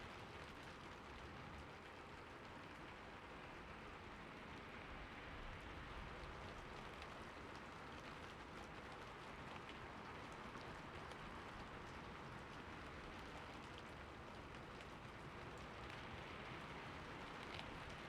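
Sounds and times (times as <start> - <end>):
rain falling on a roof: 0.0 - 18.0.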